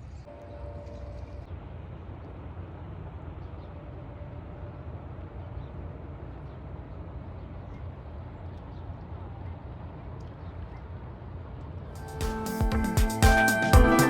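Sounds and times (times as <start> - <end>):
low outdoor background rumble: 0.0 - 14.0.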